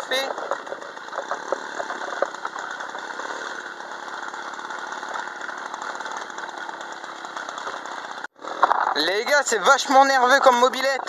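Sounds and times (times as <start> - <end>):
moped engine running: 0.0 - 11.0.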